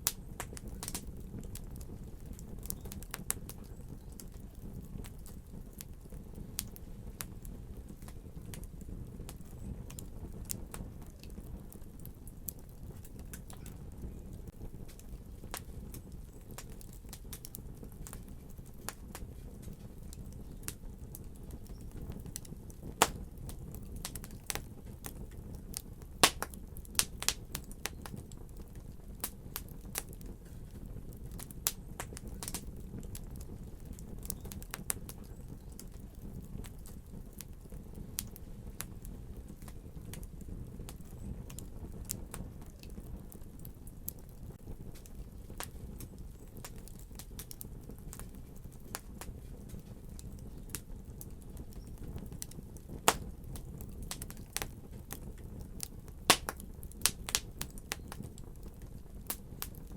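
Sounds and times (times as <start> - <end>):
fire popping: 0.0 - 59.9
wood fire crackling: 0.0 - 59.9.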